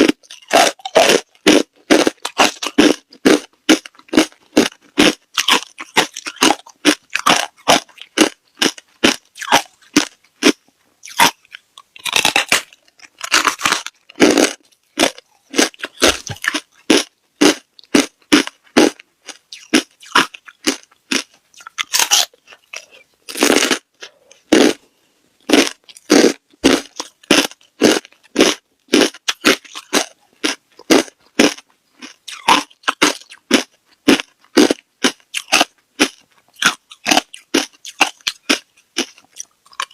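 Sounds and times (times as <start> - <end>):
ice being chewed: 0.0 - 24.8, 25.4 - 39.9.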